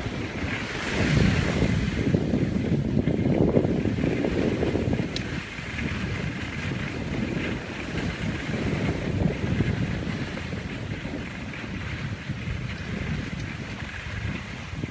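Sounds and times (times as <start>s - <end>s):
skis sliding over snow: 0.0s - 14.9s
wind buffeting microphone: 0.0s - 14.9s.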